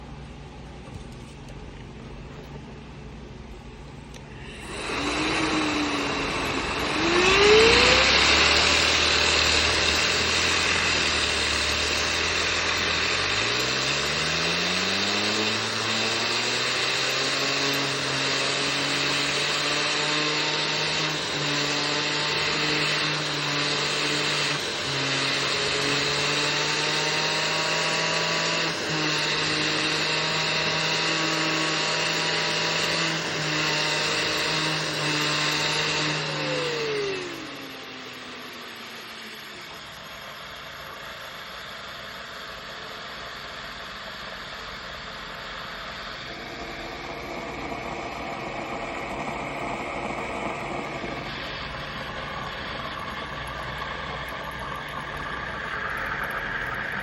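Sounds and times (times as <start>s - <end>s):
fidget spinner whirring: 4.3s - 57.0s.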